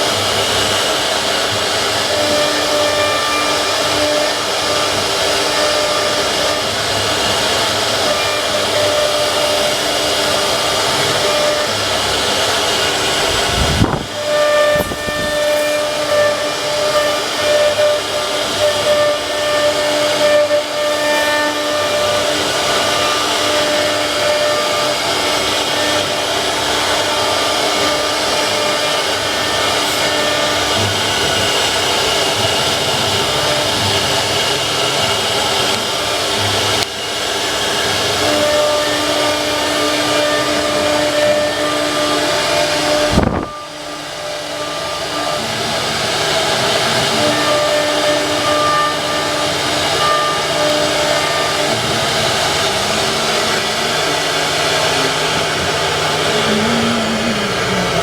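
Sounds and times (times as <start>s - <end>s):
router spindle cutting wood: 0.0s - 58.0s.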